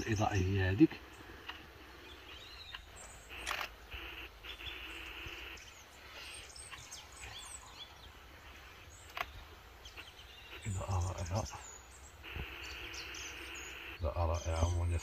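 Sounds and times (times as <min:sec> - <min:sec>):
soft bird chirps: 0:00.0 - 0:15.0.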